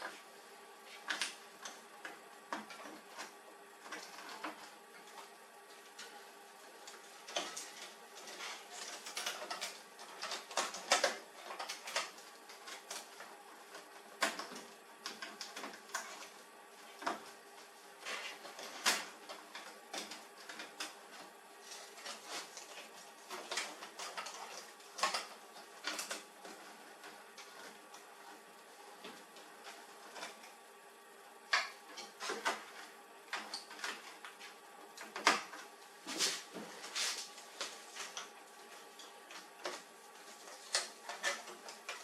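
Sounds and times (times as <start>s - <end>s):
faint steady hum: 0.0s - 42.0s
clicks and knocks of printer parts: 0.9s - 17.4s, 18.1s - 30.6s, 31.5s - 42.0s.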